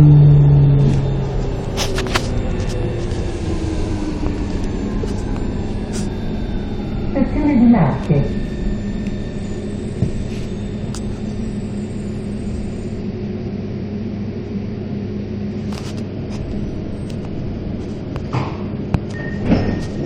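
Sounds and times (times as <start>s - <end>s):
metro train rumble: 0.0s - 20.0s.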